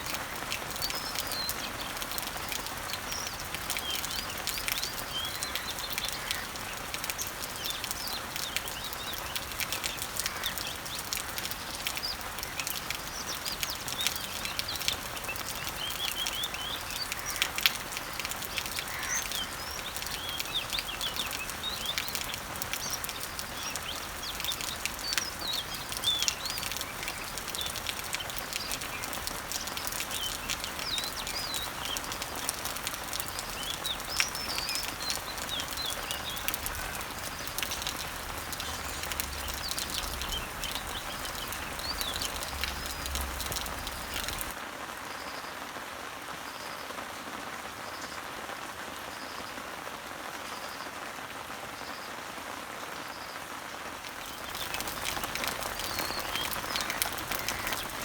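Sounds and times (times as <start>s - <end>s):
birds chirping: 0.0s - 44.6s, 54.1s - 58.0s
rain falling on leaves: 0.0s - 58.0s.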